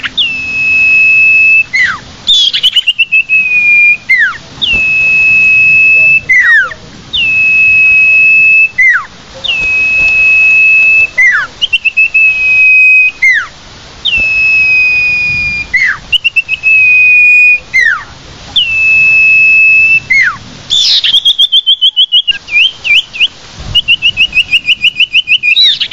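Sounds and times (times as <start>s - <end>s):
bird chipping notes: 0.0s - 25.9s
bird high whistles: 0.0s - 25.9s.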